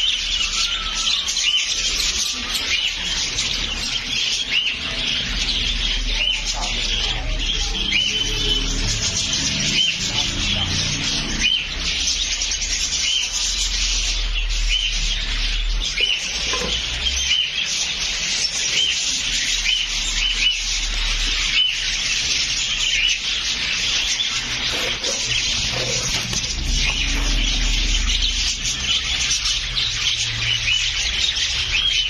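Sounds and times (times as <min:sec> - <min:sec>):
parrots chattering and chirping: 0:00.0 - 0:32.0.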